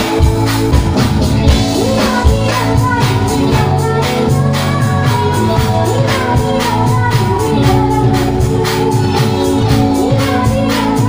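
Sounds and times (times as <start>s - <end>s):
drums playing a beat: 0.0s - 11.0s
electric guitar: 0.0s - 11.0s
keyboards: 0.0s - 11.0s
person singing: 0.0s - 11.0s.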